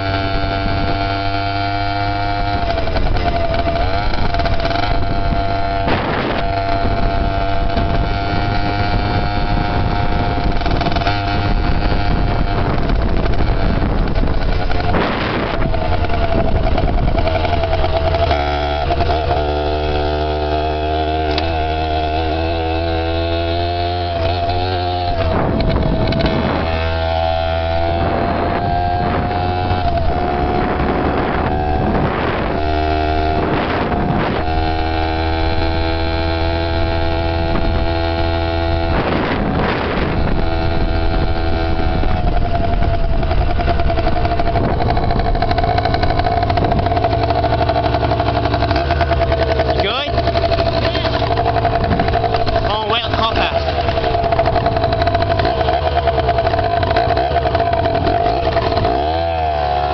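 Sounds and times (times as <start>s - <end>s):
dirt bike engine running: 0.0s - 59.9s
noisy rushes: 0.0s - 59.9s.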